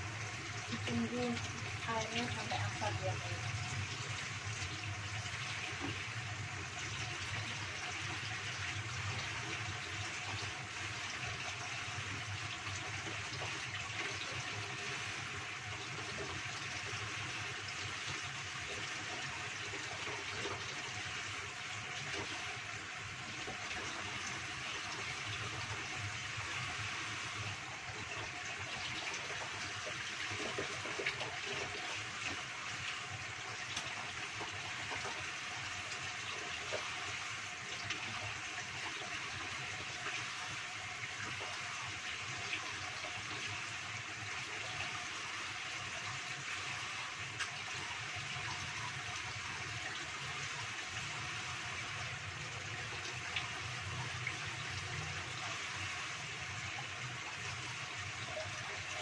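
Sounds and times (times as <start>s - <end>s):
sauce bubbling in a wok: 0.0s - 59.0s.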